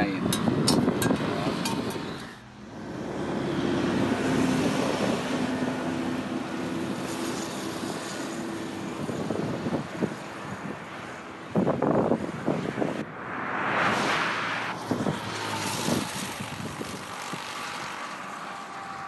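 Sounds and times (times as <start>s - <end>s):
heavy vehicle engine drone: 0.0s - 19.0s
vehicle tyre noise: 0.0s - 19.0s.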